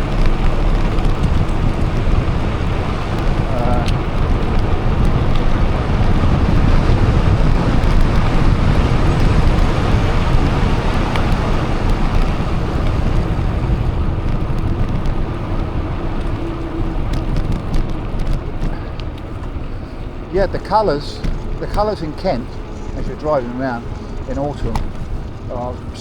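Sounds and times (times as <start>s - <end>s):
wind rush on microphone: 0.0s - 26.0s.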